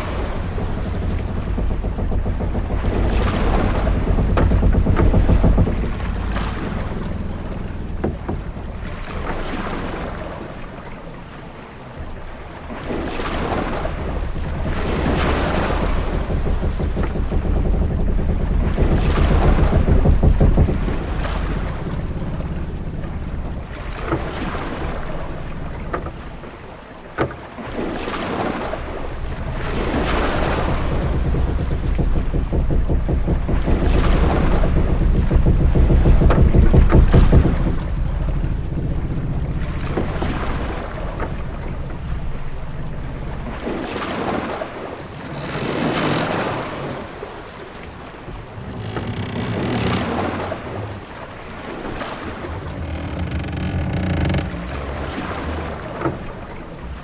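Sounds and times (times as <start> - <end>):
low wind rumble: 0.0 - 57.0
ship knocking: 0.0 - 57.0
waves washing: 0.0 - 57.0.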